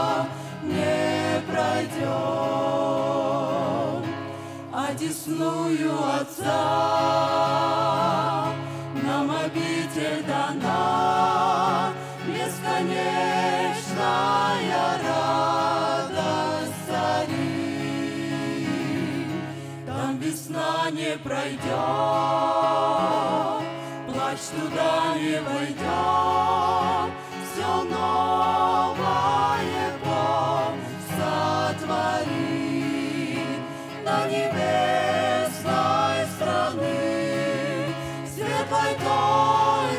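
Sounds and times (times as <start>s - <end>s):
choir singing a gospel hymn: 0.0s - 39.9s.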